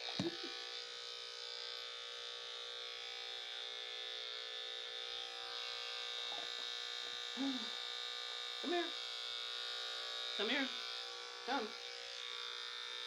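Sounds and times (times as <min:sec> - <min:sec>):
electric clippers humming: 0:00.0 - 0:13.0.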